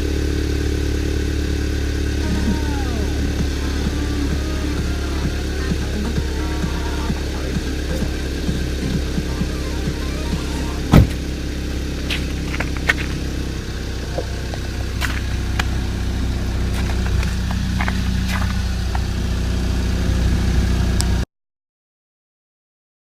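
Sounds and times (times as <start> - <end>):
car engine idling: 0.0 - 21.2.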